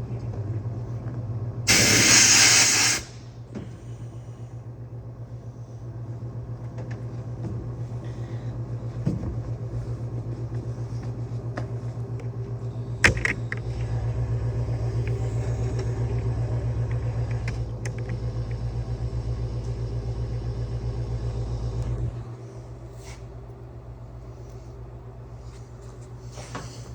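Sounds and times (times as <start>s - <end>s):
motor humming steadily: 0.0s - 26.9s.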